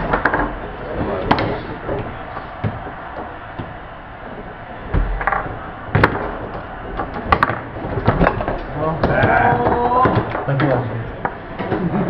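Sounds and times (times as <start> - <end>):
foosball table knocks: 0.1 - 3.8, 5.0 - 11.8.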